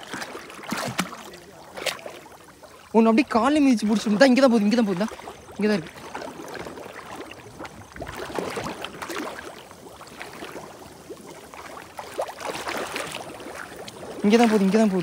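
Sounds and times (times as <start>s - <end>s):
shallow water splashing: 0.0s - 15.0s.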